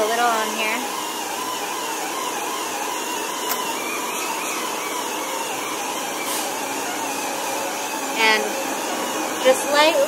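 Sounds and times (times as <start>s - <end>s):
electric polisher motor whine: 0.0s - 10.0s.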